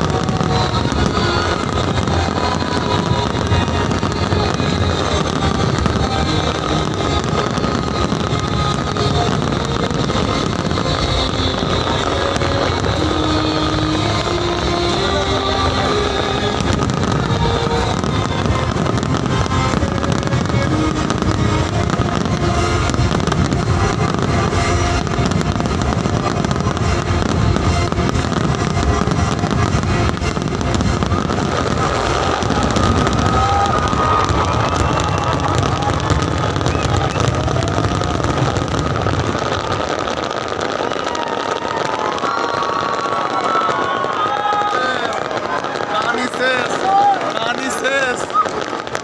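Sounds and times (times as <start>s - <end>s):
fireworks bangs and crackles: 0.0s - 49.0s
music playing: 0.0s - 49.0s.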